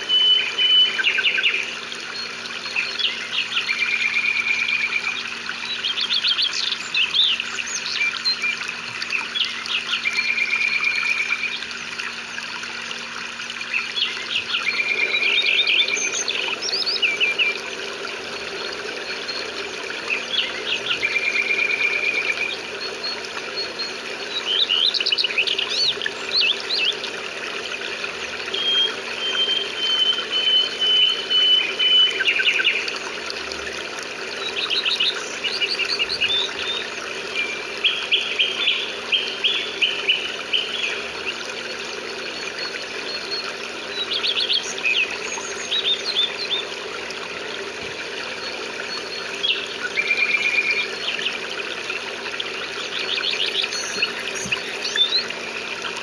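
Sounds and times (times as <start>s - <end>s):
rain hiss: 0.0s - 56.0s
songbirds chirping and trilling: 0.0s - 56.0s.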